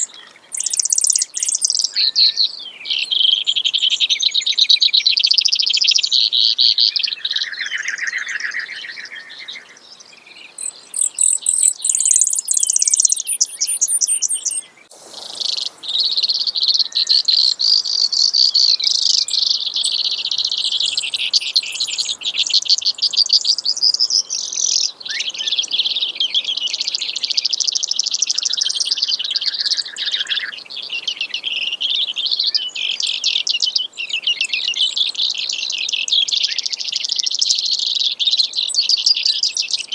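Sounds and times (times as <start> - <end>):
sparrow singing high trills: 0.0 - 39.9.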